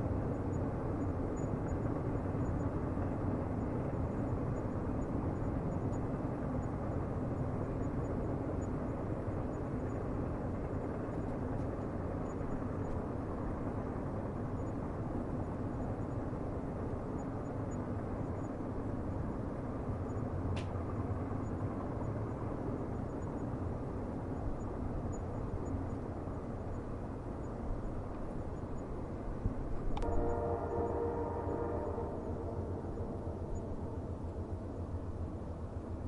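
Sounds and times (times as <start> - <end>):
distant train rumbling: 0.0 - 36.0.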